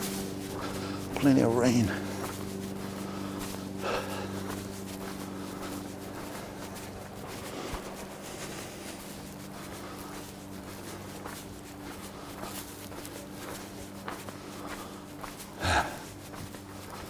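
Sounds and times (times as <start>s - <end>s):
footsteps on dry ground: 0.0s - 17.0s
low engine hum: 0.0s - 17.0s.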